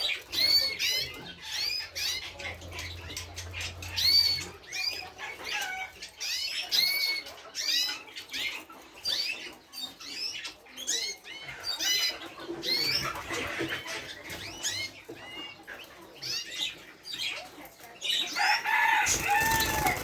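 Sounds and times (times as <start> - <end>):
birds chirping and squeaking: 0.0 - 20.0.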